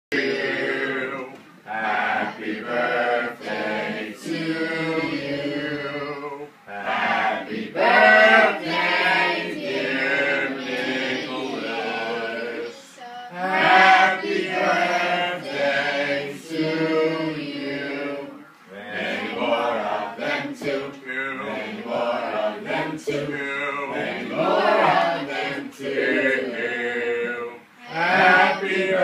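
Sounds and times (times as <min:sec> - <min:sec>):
group singing in unison: 0:00.1 - 0:29.0.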